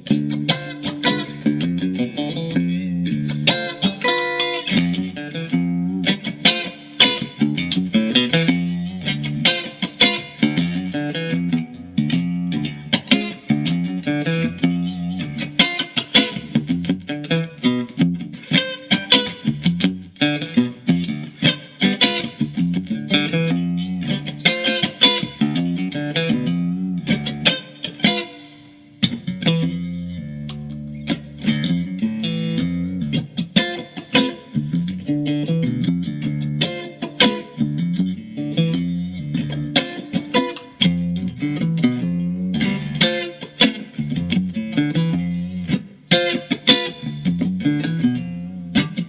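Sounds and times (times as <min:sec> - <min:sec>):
electric guitar notes and chords: 0:00.0 - 0:49.0.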